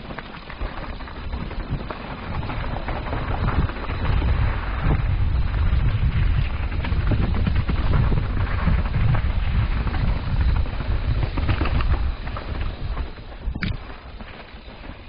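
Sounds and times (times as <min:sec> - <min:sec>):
bike rattling over rough ground: 0:00.0 - 0:15.0
wind rumble on microphone: 0:00.0 - 0:15.0.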